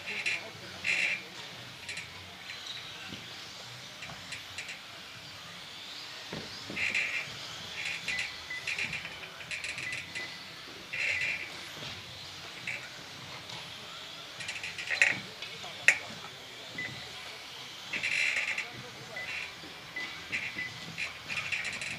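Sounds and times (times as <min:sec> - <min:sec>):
electric motors whining: 0:00.0 - 0:21.9.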